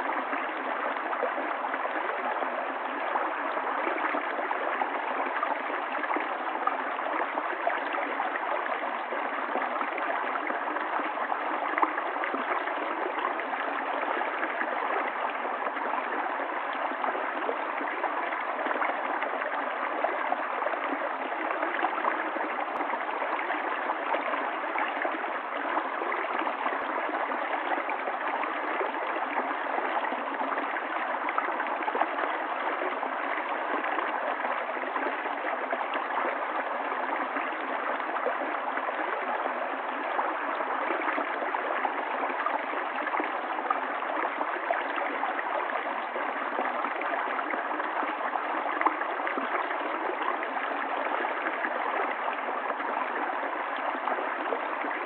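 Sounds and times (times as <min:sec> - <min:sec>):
stream water gurgling over rocks: 0:00.0 - 0:55.0.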